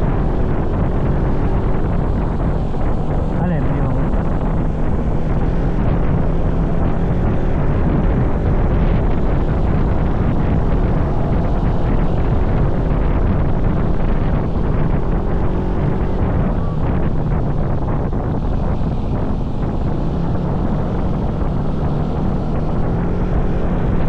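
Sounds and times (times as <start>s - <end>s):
vehicle engine running: 0.0s - 24.0s
wind noise on microphone: 0.0s - 24.0s.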